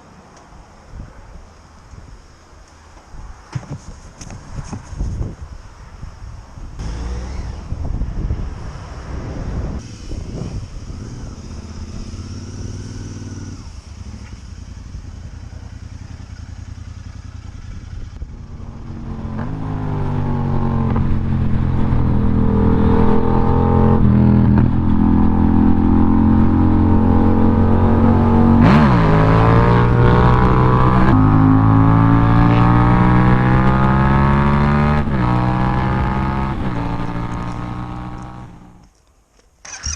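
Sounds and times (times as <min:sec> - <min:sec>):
motorcycle engine accelerating: 0:06.8 - 0:38.8, 0:39.7 - 0:39.9.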